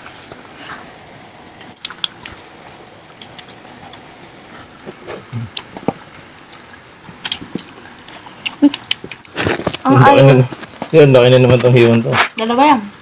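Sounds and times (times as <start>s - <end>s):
people chewing food: 0.0s - 12.3s.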